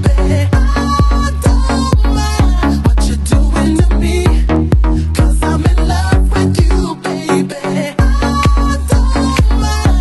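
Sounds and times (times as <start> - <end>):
kick drum: 0.0 - 6.8, 8.0 - 10.0
bass line: 0.0 - 10.0
electronic dance music: 0.0 - 10.0.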